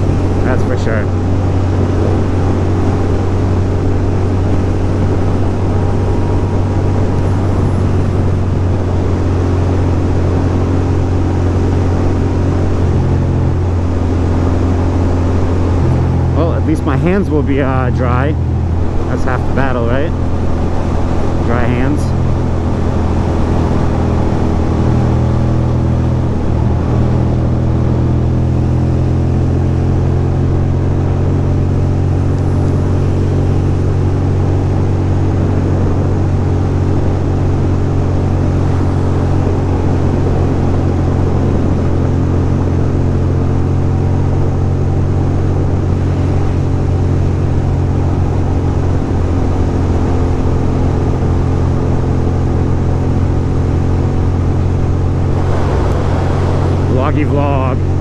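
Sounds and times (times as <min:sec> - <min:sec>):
motorcycle engine running steadily: 0:00.0 - 0:58.0.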